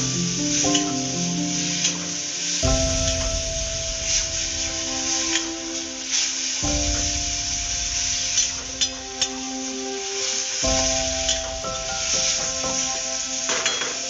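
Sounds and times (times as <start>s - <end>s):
gravy sizzling: 0.0s - 14.0s.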